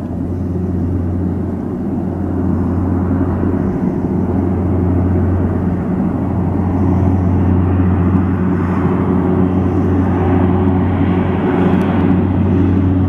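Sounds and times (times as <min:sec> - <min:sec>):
aircraft engines and propellers droning: 0:00.0 - 0:13.0.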